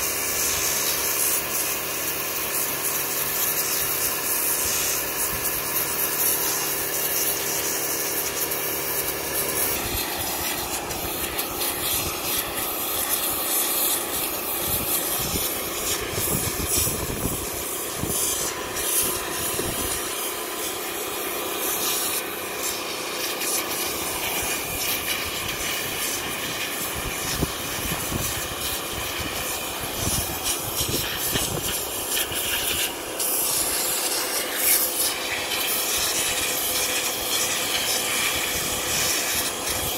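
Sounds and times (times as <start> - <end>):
pressure washer water jet hissing: 0.0 - 39.9.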